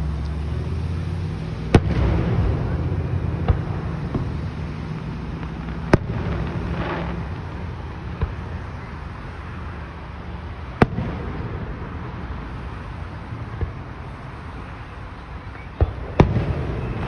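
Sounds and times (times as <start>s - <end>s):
firework crackle: 0.0s - 17.0s
fireworks bangs: 0.8s - 17.0s.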